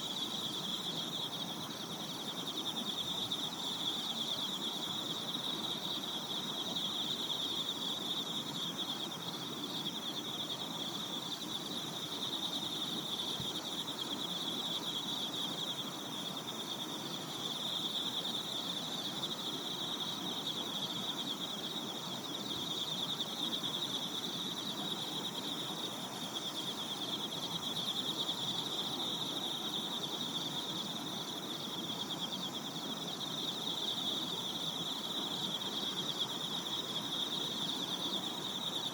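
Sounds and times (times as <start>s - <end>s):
crickets trilling: 0.0s - 38.9s
low background hiss: 0.0s - 38.9s.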